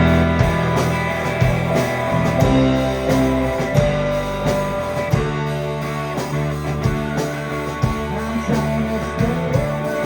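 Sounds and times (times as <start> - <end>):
drum hits: 0.0 - 8.4
rock band playing: 0.0 - 10.0.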